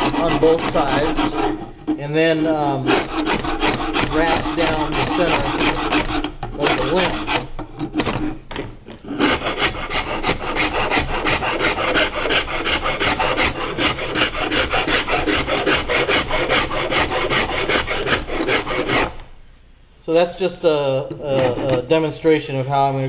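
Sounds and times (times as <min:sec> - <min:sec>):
wood rasp filing wood: 0:00.0 - 0:08.4, 0:09.0 - 0:19.2, 0:21.1 - 0:22.0.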